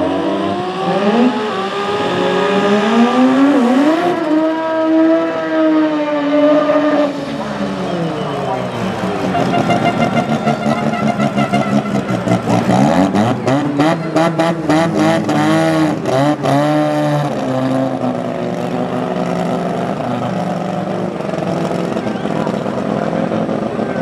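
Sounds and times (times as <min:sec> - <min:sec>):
drag racing engines revving: 0:00.0 - 0:24.0.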